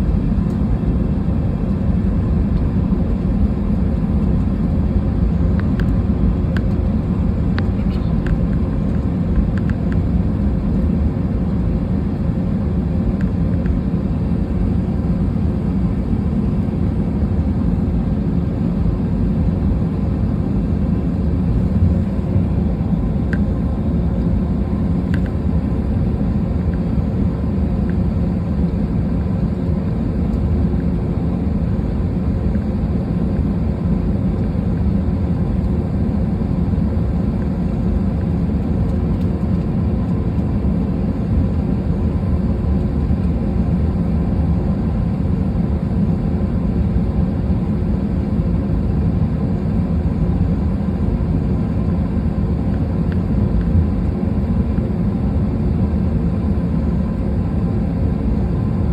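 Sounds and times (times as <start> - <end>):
airliner cabin engine rumble: 0.0 - 58.9
faint hum: 0.0 - 58.9.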